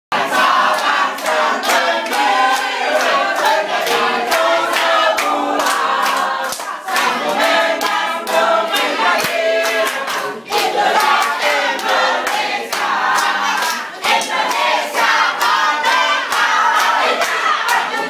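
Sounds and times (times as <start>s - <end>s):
group of people singing: 0.1s - 18.0s
hands clapping in rhythm: 0.1s - 18.0s.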